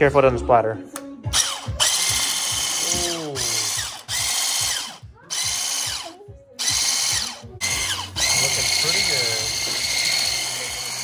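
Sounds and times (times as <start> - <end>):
electric whisk motor whining: 1.3 - 11.0.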